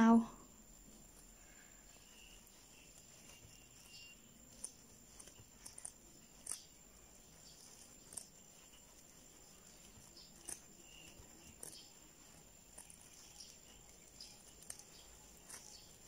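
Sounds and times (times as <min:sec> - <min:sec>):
crochet hook clicking and rustling: 0:00.8 - 0:16.0.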